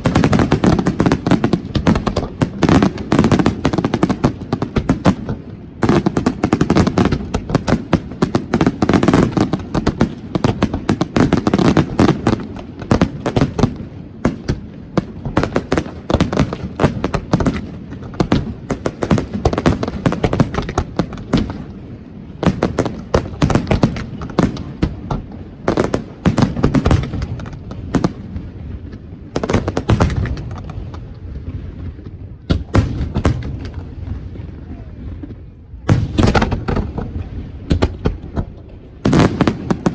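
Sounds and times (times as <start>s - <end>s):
deep fireworks booms: 0.0s - 39.9s
fireworks crackling bangs: 0.0s - 39.9s.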